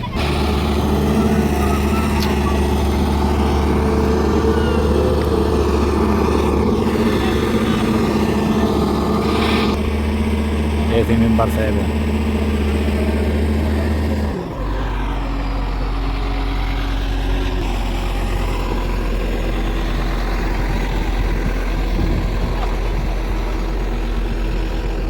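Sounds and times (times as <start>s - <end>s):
large engine running: 0.0s - 25.0s.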